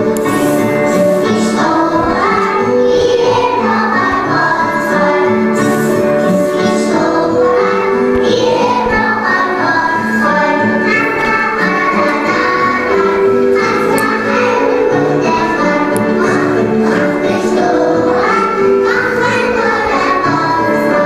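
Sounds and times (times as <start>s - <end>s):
children singing: 0.0s - 21.0s
musical accompaniment: 0.0s - 21.0s.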